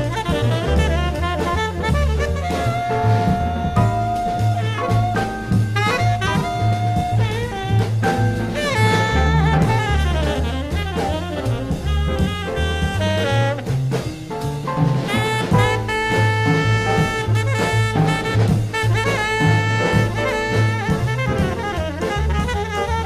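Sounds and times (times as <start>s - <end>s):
jazz music with horn melody: 0.0s - 23.0s.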